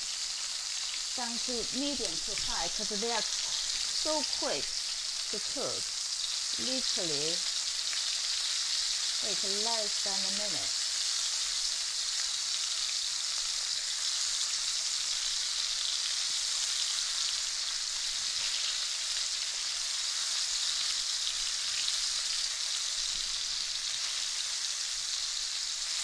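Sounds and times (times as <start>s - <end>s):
prawns sizzling in oil: 0.0s - 26.0s.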